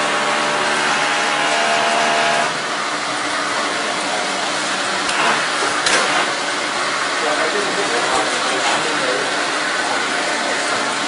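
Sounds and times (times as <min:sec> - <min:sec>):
plastering machine running: 0:00.0 - 0:11.0.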